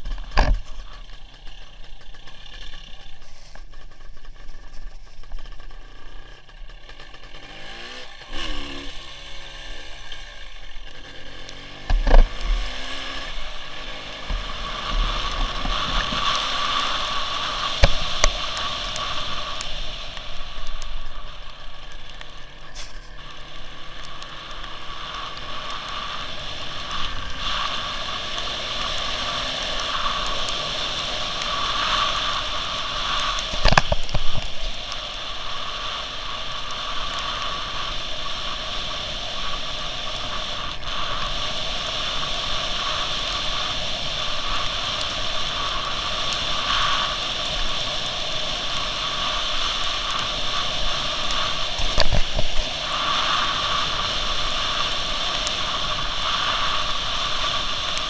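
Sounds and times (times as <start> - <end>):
rain: 0.0 - 58.0
road noise: 0.0 - 58.0
two-stroke motorcycle engine: 0.0 - 58.0.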